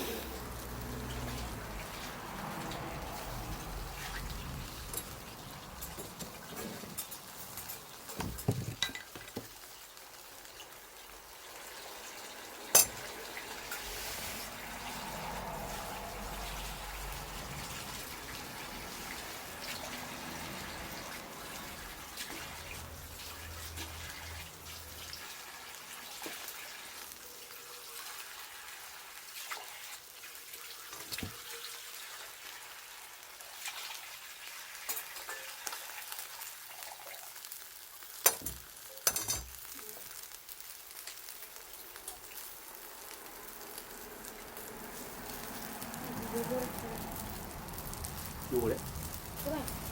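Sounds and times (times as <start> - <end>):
bonfire hissing and crackling: 0.0 - 49.9.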